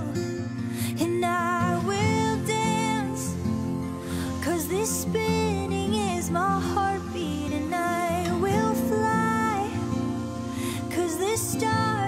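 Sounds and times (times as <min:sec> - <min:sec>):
song with guitar accompaniment: 0:00.0 - 0:12.0.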